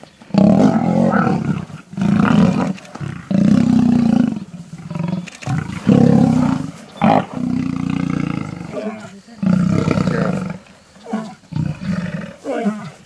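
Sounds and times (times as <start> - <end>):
lions roaring: 0.3 - 13.0.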